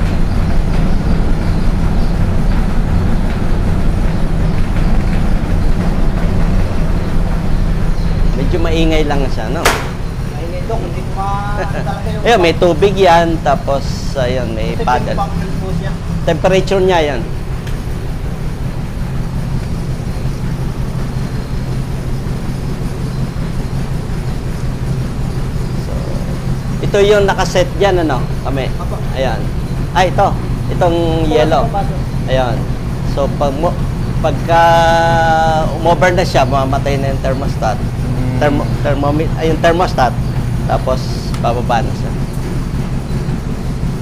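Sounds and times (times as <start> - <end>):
incubator fan humming: 0.0 - 44.0.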